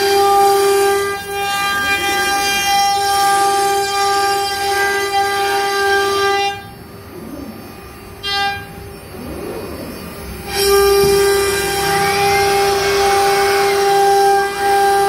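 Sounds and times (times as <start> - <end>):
cnc router spindle whining: 0.0 - 15.0.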